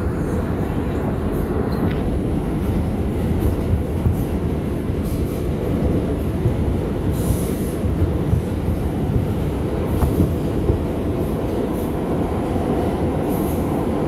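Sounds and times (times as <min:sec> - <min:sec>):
subway train rumbling on track: 0:00.0 - 0:14.0.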